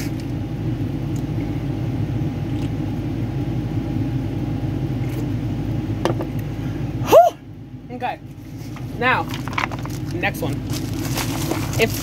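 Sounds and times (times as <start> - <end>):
faint steady hum: 0.0 - 12.0
low mechanical rumble: 0.0 - 12.0.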